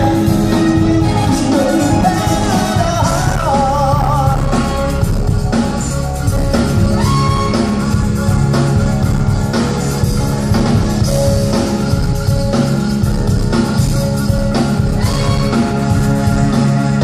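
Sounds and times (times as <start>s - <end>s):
pop song over loudspeakers: 0.0s - 17.0s.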